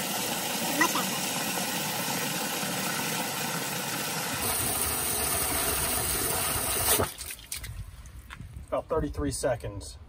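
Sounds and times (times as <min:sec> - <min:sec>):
water from hose into plastic bucket: 0:00.0 - 0:08.2.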